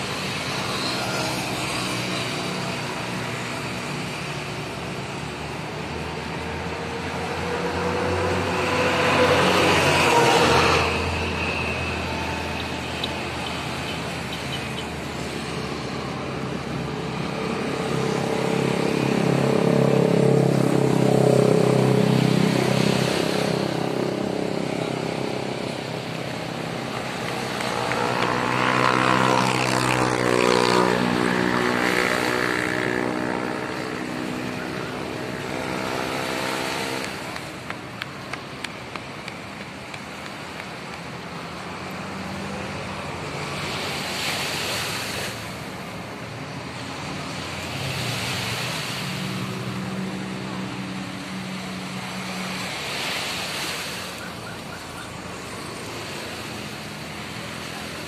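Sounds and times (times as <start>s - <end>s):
motor vehicles passing close by: 0.0s - 58.0s.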